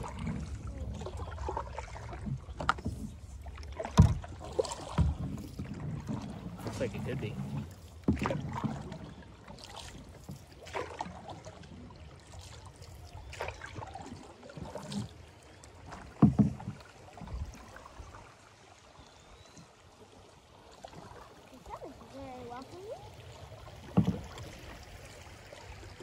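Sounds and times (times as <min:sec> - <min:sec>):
paddle splashing in water: 0:00.0 - 0:26.0.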